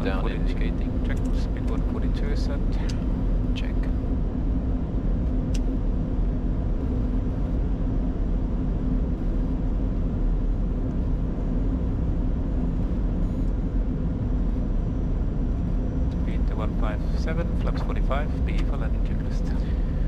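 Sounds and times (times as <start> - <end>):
faint steady hum: 0.0 - 20.0
low rumble: 0.0 - 20.0.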